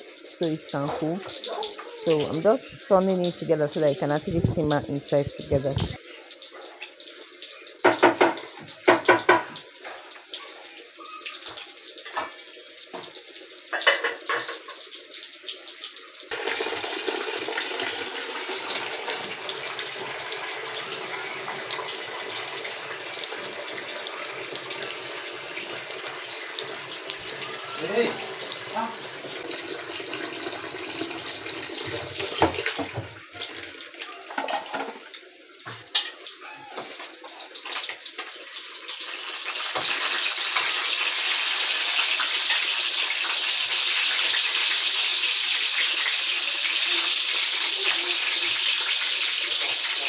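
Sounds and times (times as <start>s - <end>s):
fish frying in hot oil: 0.0s - 50.0s.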